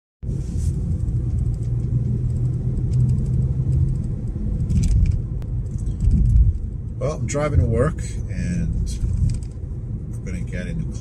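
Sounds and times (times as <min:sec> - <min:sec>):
car road and engine rumble: 0:00.2 - 0:11.0.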